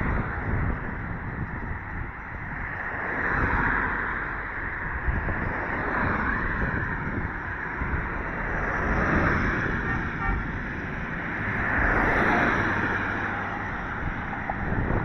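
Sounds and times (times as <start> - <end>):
cars passing: 0.0 - 15.0
wind buffeting microphone: 0.0 - 15.0.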